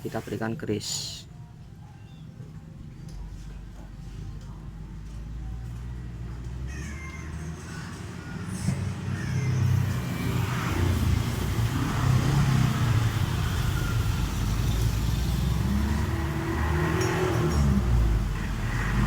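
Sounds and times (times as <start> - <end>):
vehicle engine running: 3.1 - 19.0.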